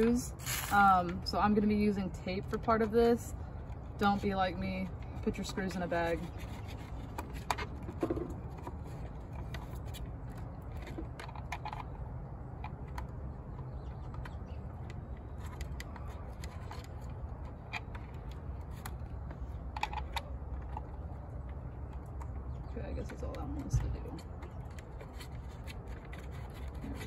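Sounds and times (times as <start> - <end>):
steady low rumble: 0.0 - 27.0
plastic parts clicking and scraping: 2.4 - 27.0.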